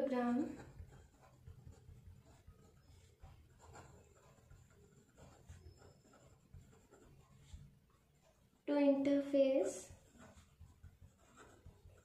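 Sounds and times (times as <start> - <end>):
pen scratching on paper: 0.0 - 12.0.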